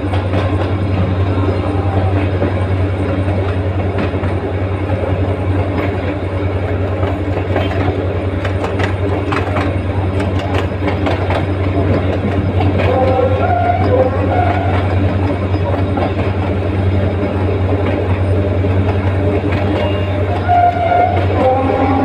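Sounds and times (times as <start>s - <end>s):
train rumbling: 0.0s - 22.0s
wheels clicking and clanking: 0.0s - 22.0s.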